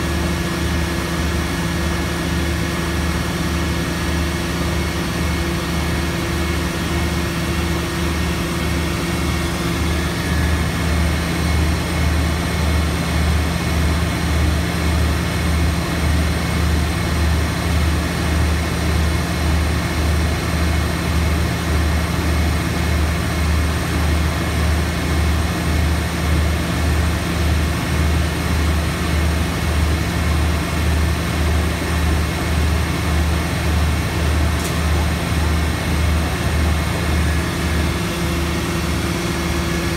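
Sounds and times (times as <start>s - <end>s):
heavy engine pulsing hum: 0.0s - 39.9s.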